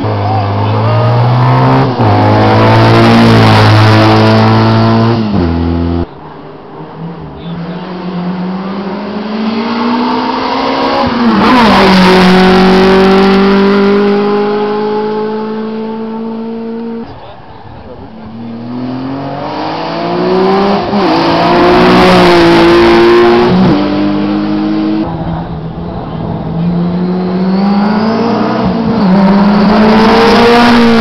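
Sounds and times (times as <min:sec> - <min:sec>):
racing car engine full throttle: 0:00.0 - 0:31.0.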